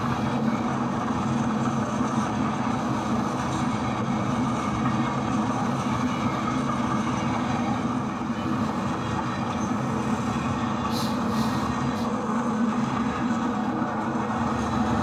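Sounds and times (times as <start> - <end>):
model locomotive drone: 0.0 - 15.0
train cars rolling: 0.0 - 15.0.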